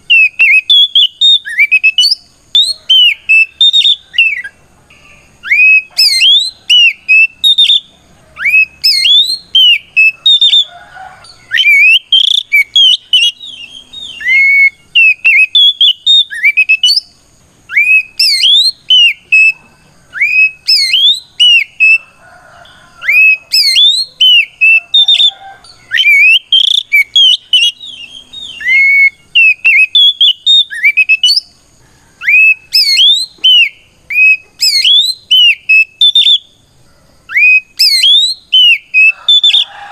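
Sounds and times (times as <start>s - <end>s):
bird singing whistled phrases: 0.0s - 22.0s, 23.0s - 31.6s, 32.2s - 36.6s, 37.3s - 39.9s.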